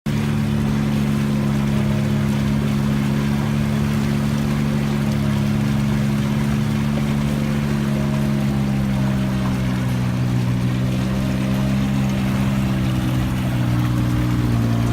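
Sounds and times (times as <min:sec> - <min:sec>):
engine droning steadily: 0:00.0 - 0:14.9.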